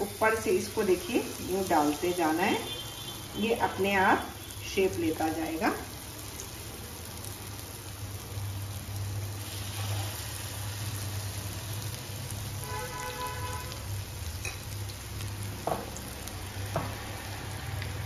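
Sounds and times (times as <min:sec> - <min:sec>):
batter frying in oil: 0:00.0 - 0:18.0.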